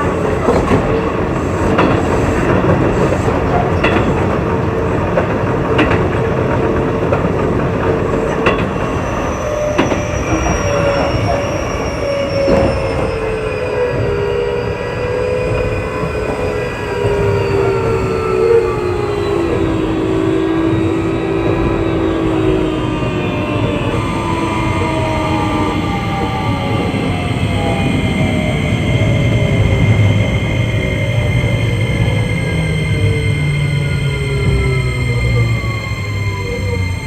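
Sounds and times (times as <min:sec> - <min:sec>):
rail joint clicks: 0:00.0 - 0:14.2, 0:15.3 - 0:37.0
falling whining tones: 0:00.0 - 0:37.0
train wheels rumbling on rail: 0:00.0 - 0:37.0.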